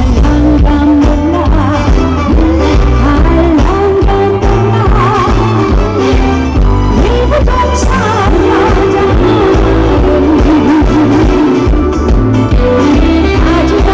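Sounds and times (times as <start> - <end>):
amplified backing music: 0.0 - 13.9
woman singing with vibrato: 0.0 - 13.9.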